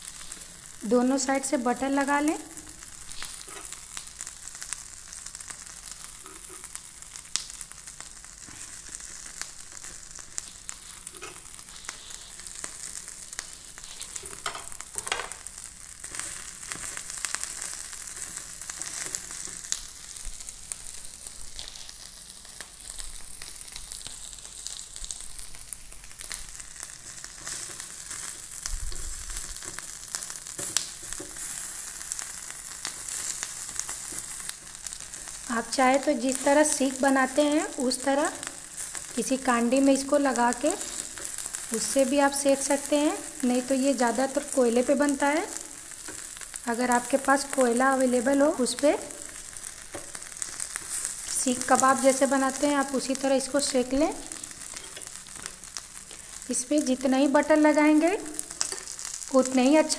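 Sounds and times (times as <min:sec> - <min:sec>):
chicken sizzling on grill pan: 0:00.0 - 0:59.9.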